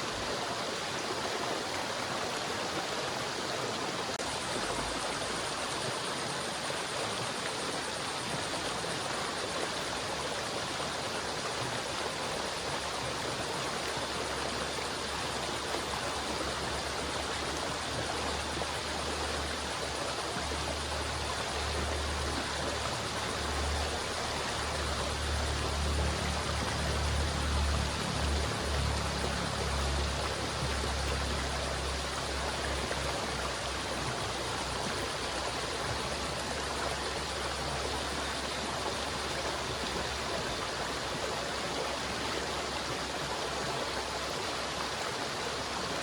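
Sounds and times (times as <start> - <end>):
river water flowing: 0.0 - 46.0.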